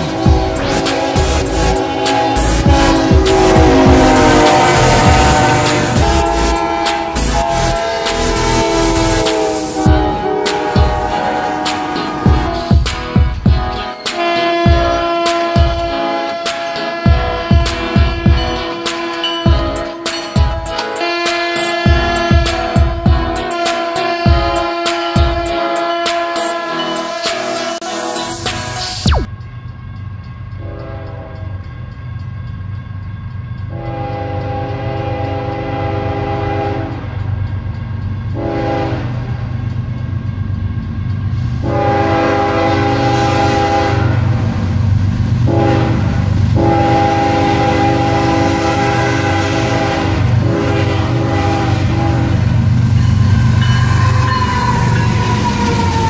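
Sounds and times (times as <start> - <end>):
train horn blasts: 0.0 - 28.3, 30.6 - 31.6, 33.7 - 37.3, 38.3 - 39.5, 41.6 - 44.6, 45.4 - 56.0.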